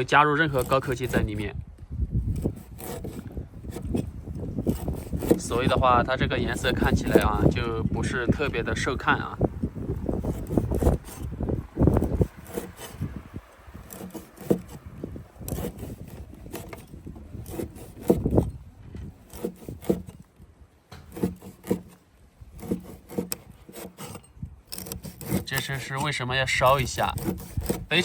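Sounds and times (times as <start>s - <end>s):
knife sawing through meat: 0.4s - 1.5s, 2.3s - 9.3s, 10.1s - 13.2s, 13.8s - 18.6s, 19.2s - 20.2s, 21.0s - 28.0s.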